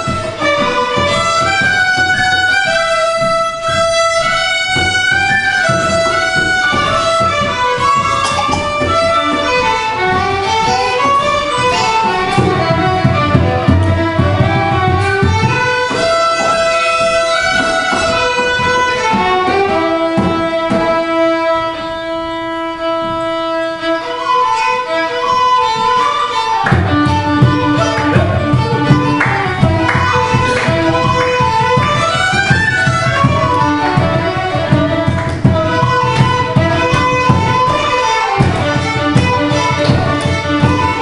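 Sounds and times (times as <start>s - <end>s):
fiddles playing dance tunes: 0.0s - 41.0s
low accompaniment: 0.0s - 41.0s.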